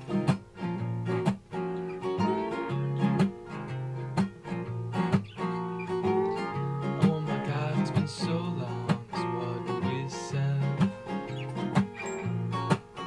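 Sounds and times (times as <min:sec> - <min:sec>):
song with strummed acoustic guitar: 0:00.0 - 0:13.0.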